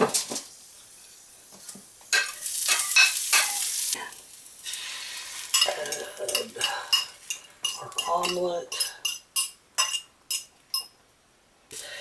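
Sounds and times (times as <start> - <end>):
egg sizzling in frying pan: 0.0 - 10.9.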